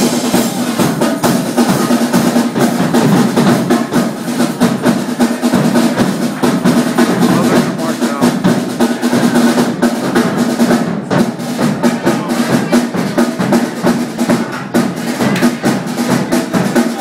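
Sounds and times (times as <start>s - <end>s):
snare drum rolls: 0.0s - 17.0s.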